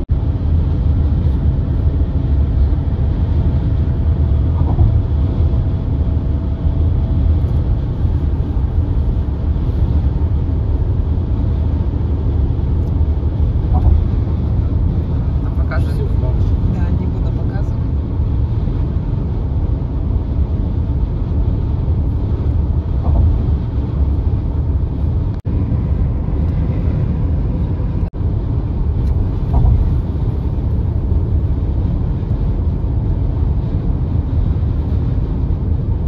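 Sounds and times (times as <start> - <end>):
car driving interior rumble: 0.0 - 36.0.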